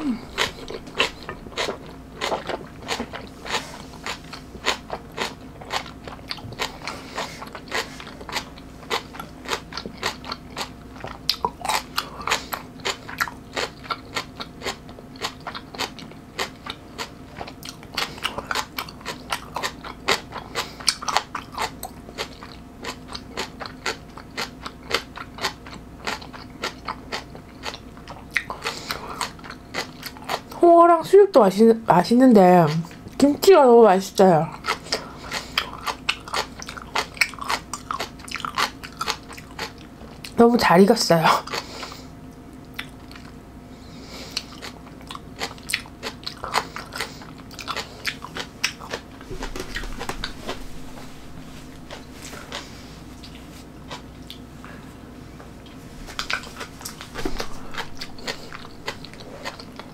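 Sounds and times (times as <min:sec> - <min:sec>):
crisp crunching chewing: 0:00.3 - 0:30.6, 0:34.6 - 0:40.4, 0:44.1 - 0:51.0, 0:51.6 - 0:54.8, 0:55.7 - 0:59.9.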